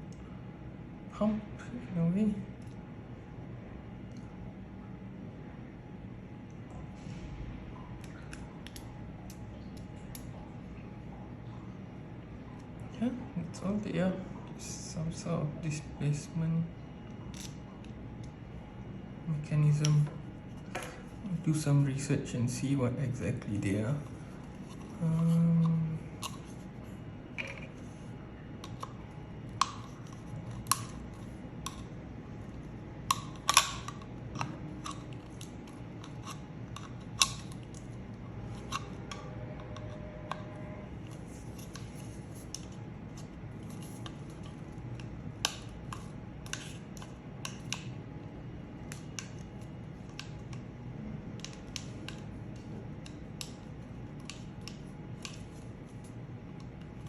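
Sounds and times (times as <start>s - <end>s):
low background hum: 0.0s - 57.0s.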